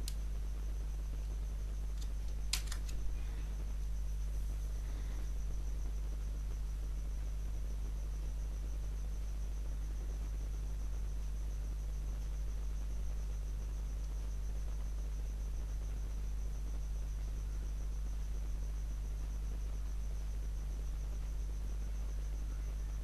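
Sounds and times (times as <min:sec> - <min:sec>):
low hum with hiss: 0:00.0 - 0:23.0.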